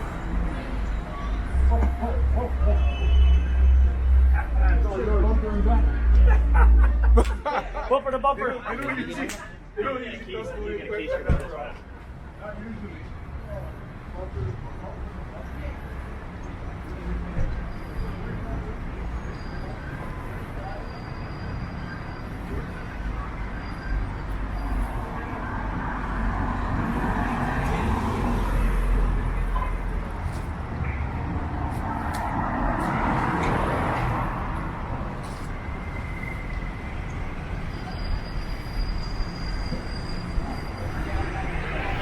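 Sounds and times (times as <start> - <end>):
traffic rumble: 0.0 - 42.0
vehicles passing: 0.0 - 42.0.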